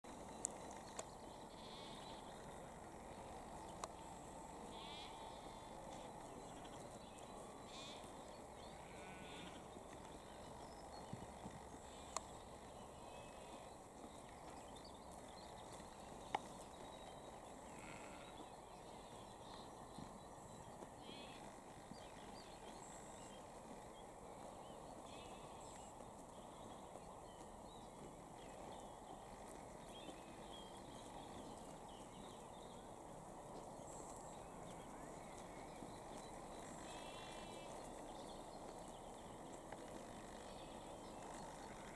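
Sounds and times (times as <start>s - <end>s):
faint outdoor hiss: 0.1s - 41.9s.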